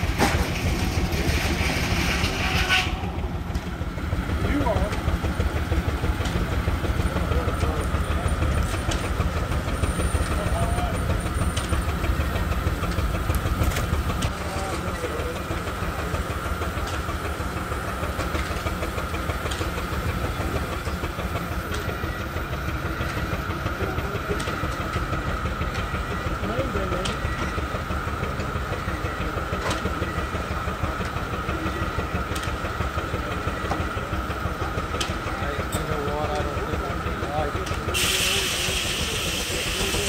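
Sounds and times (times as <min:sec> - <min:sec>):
sawmill high whine: 0:00.0 - 0:40.0
steam engine low rumble: 0:00.0 - 0:40.0.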